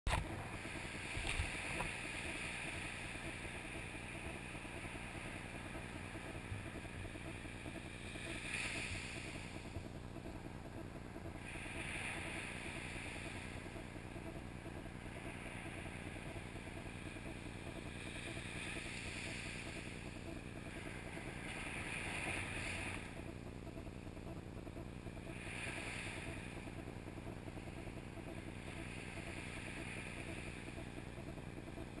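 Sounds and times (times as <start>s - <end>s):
small waves washing on beach: 0.1s - 10.4s, 11.2s - 23.3s, 25.3s - 26.8s, 27.6s - 31.2s.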